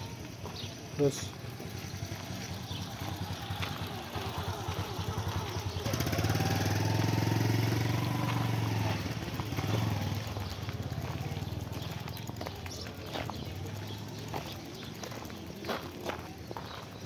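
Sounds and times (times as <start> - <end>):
motorcycle engine passing by: 1.4 - 17.0.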